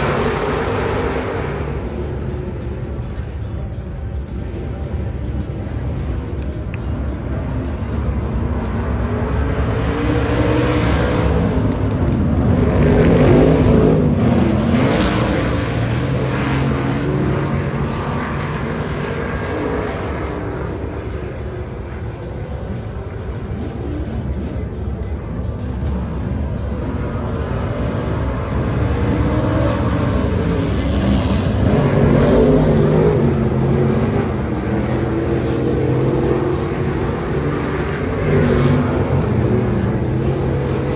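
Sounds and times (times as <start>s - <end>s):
stock cars racing: 0.0s - 40.9s.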